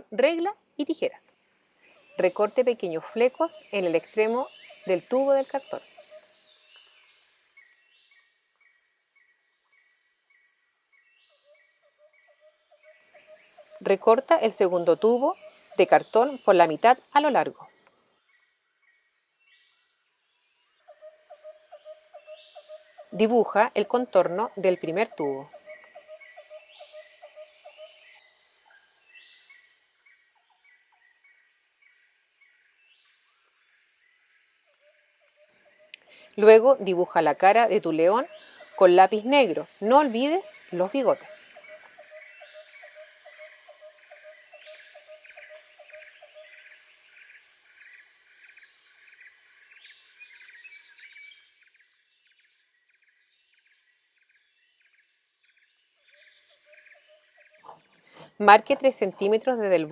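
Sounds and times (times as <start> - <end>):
faint chirping: 0.0 - 59.9.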